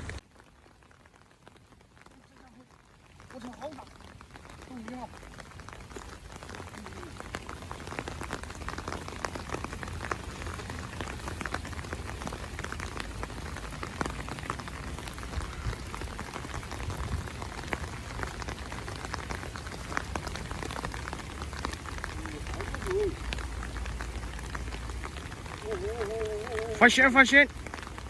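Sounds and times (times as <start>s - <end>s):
raindrops ticking: 0.0s - 28.0s.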